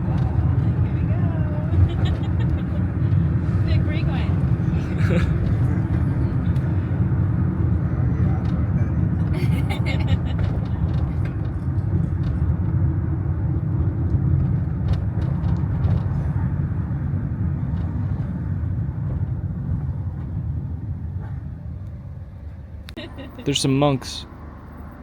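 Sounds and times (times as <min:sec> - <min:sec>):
motor vehicle rumbling: 0:00.0 - 0:25.0.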